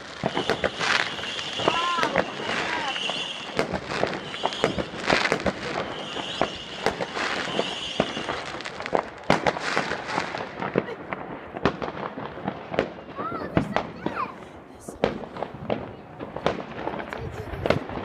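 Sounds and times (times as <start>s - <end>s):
fireworks bangs and crackling pops: 0.0s - 18.0s.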